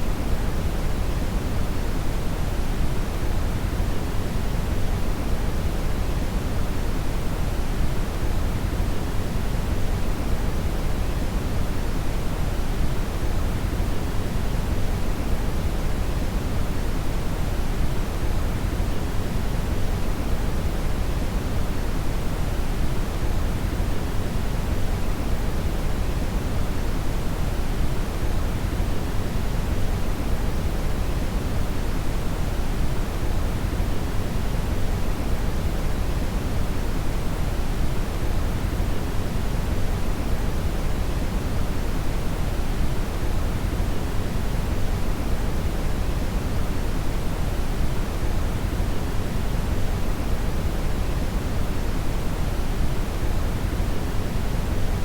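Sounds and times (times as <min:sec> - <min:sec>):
deep steady hiss of brown noise: 0:00.0 - 0:55.0.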